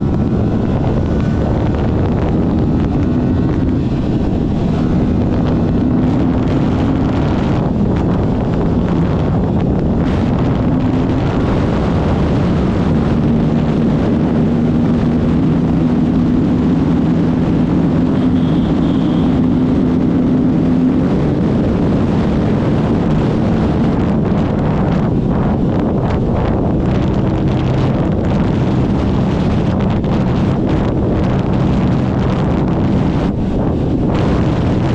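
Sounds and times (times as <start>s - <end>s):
motorcycle engine cruising: 0.0s - 34.9s
wind noise on microphone: 0.0s - 34.9s.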